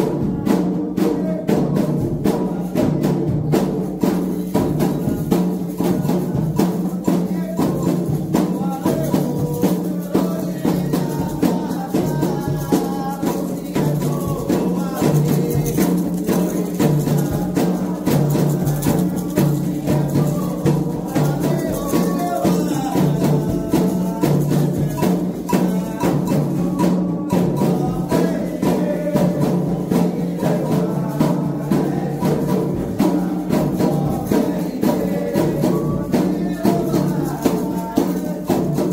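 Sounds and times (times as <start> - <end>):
hand drums and percussion: 0.0 - 38.9
voices singing a chant: 0.0 - 38.9.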